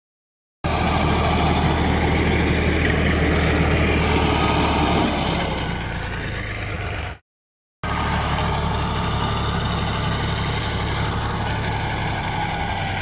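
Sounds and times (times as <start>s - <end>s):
tractor engine idling: 0.6s - 7.2s, 7.8s - 13.0s.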